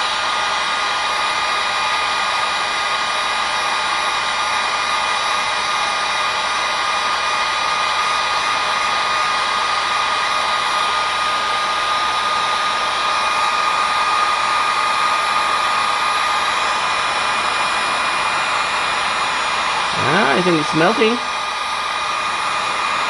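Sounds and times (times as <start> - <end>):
heat gun blowing: 0.0 - 23.0.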